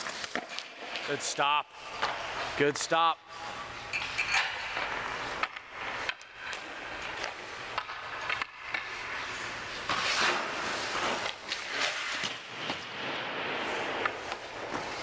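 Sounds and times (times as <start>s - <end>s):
ice skate blades scraping: 0.0s - 2.7s, 3.3s - 15.0s
hockey puck and stick clicks: 0.0s - 15.0s.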